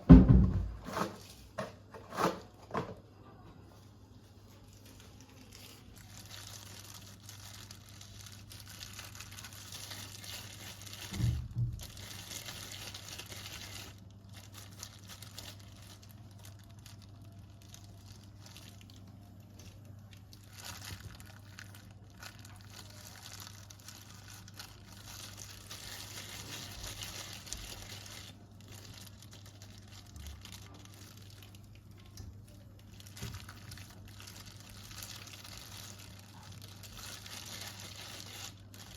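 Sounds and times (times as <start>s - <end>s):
crinkling rustling handling noise: 0.1s - 38.9s.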